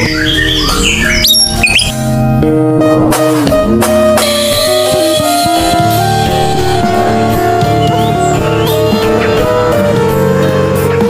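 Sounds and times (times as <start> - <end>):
guitar background music: 0.0 - 11.0.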